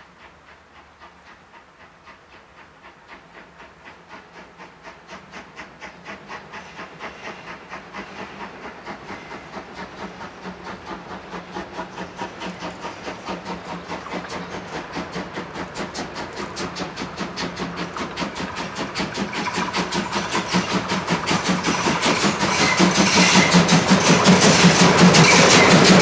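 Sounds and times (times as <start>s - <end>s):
steam locomotive exhaust chuffing: 0.0s - 26.0s.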